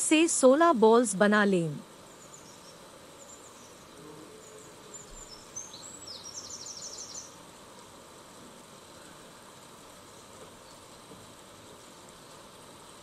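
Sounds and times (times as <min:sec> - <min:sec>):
low steady background hiss: 0:00.0 - 0:13.0.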